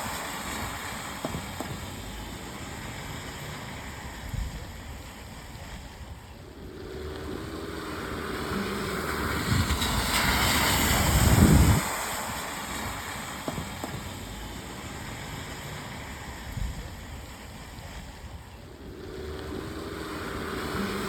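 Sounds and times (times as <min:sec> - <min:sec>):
car tyres hissing through water: 0:00.0 - 0:21.0
steady rain hiss: 0:00.0 - 0:21.0.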